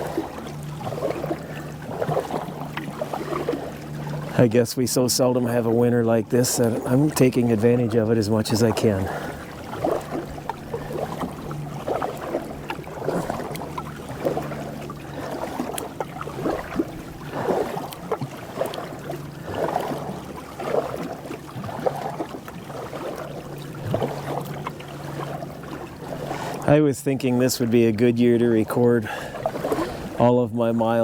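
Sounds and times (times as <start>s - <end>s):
paddle strokes in water: 0.0s - 31.0s.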